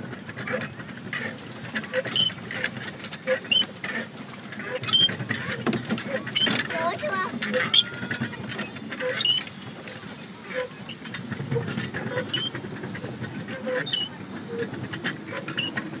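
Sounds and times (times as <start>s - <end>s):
boat parts creaking and squeaking: 0.0s - 16.0s
low rumble of water and hull: 0.0s - 16.0s.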